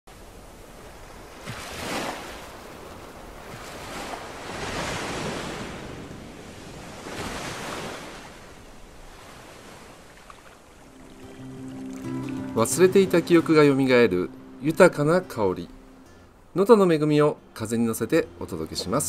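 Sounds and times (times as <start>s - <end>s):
sea waves breaking on shore: 0.1s - 19.0s.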